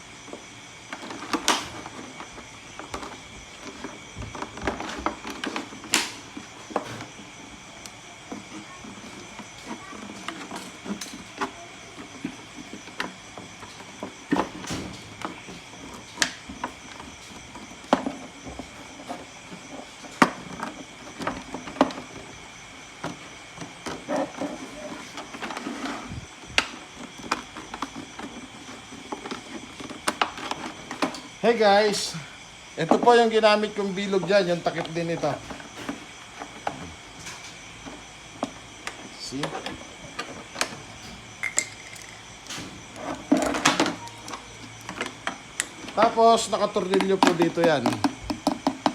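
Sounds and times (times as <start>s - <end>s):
hands handling plastic bottles: 0.9s - 31.5s, 34.0s - 48.9s.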